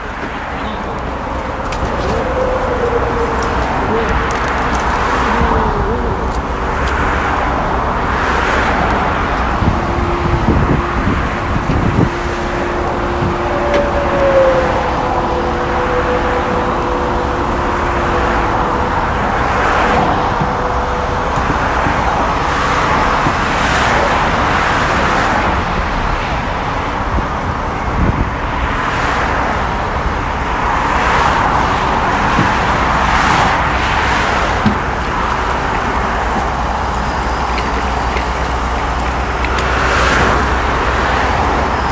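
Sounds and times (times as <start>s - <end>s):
low traffic rumble: 0.0s - 41.9s
road vehicles passing: 0.0s - 41.9s.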